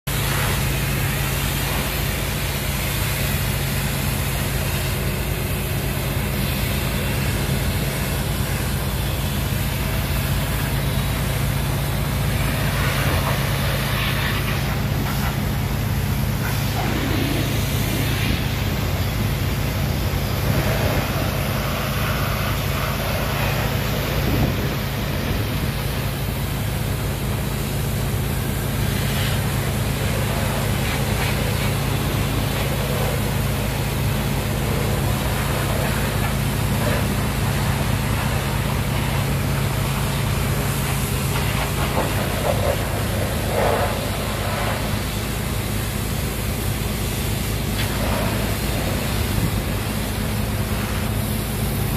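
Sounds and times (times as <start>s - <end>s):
engine humming: 0.1s - 51.9s
water spray hissing: 0.1s - 51.9s.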